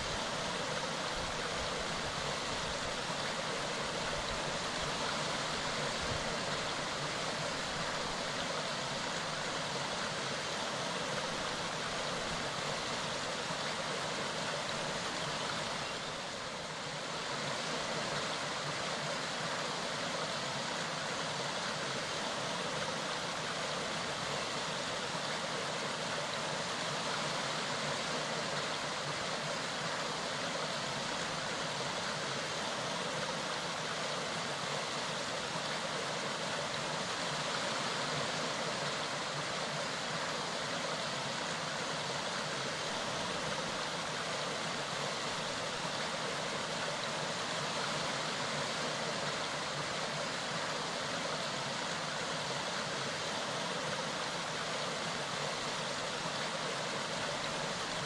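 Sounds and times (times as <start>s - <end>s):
mountain stream rushing: 0.0s - 58.0s.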